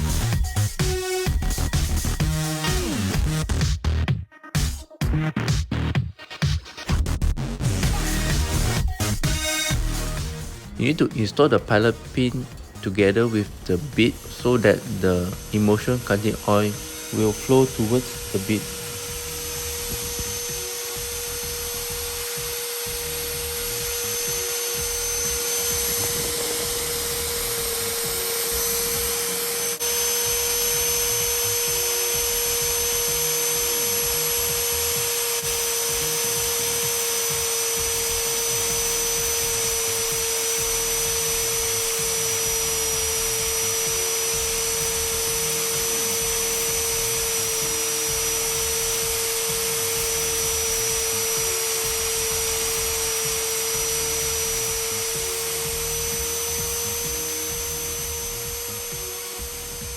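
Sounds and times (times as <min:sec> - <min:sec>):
drill motor whining: 0:00.0 - 0:03.4, 0:07.8 - 0:59.9.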